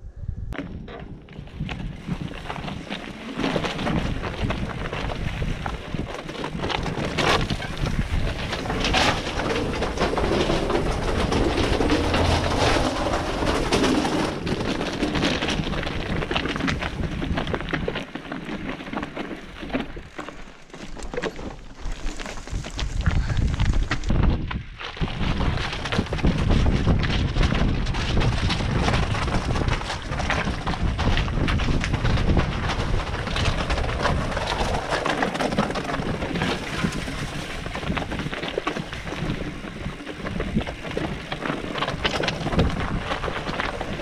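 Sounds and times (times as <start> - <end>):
bike frame rattling: 0.6 - 44.0
bike tyres crunching gravel: 1.3 - 44.0.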